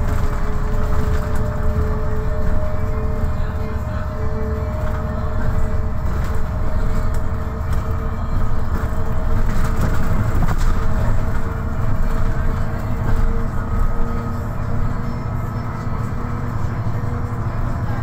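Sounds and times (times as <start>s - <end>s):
bus engine and tyre rumble: 0.0s - 18.0s
drivetrain whine: 0.0s - 18.0s.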